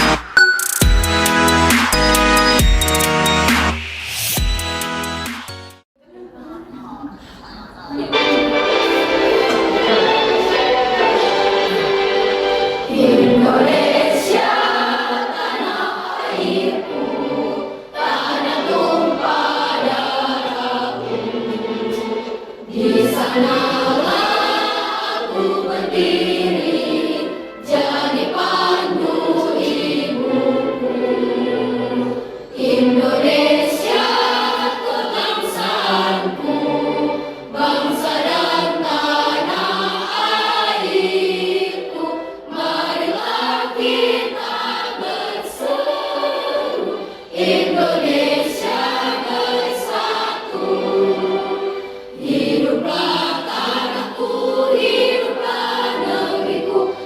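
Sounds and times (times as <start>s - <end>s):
choir singing: 8.0s - 57.0s.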